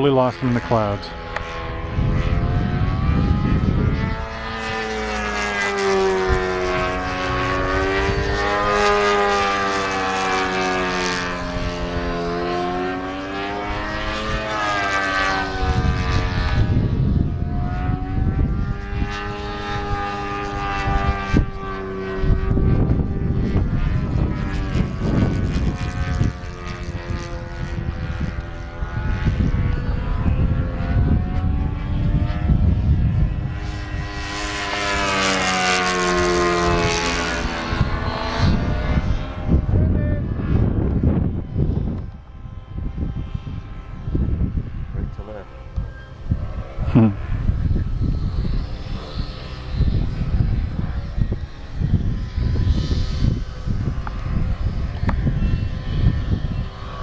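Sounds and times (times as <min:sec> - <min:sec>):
model plane motor and propeller: 0:00.0 - 0:57.0
wind rumble on microphone: 0:00.0 - 0:57.0.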